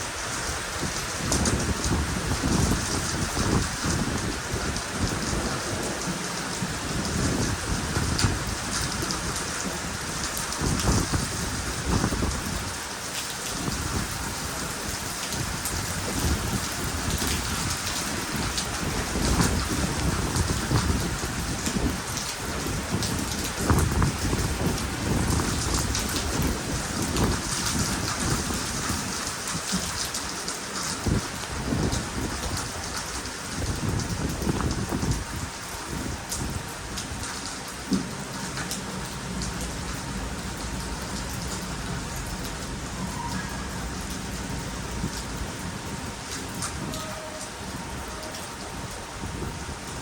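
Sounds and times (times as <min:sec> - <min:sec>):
low thunder rumbles: 0:00.0 - 0:12.8, 0:13.6 - 0:30.2, 0:31.1 - 0:50.0
hail hitting: 0:00.0 - 0:50.0
heavy rain pouring: 0:00.0 - 0:50.0.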